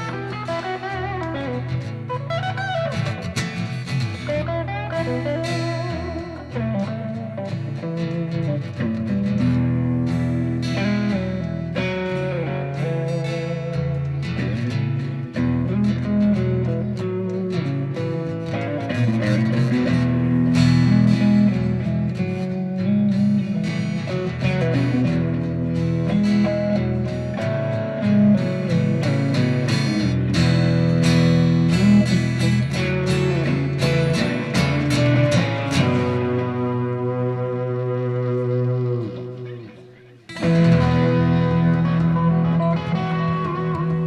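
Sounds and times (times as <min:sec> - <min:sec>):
bass line: 0:00.0 - 0:44.0
strummed and picked guitars: 0:00.0 - 0:44.0.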